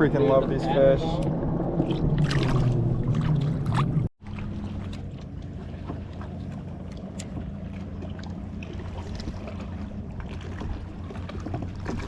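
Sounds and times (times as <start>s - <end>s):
boat motor humming: 0.0s - 12.0s
water splashes: 0.0s - 12.0s.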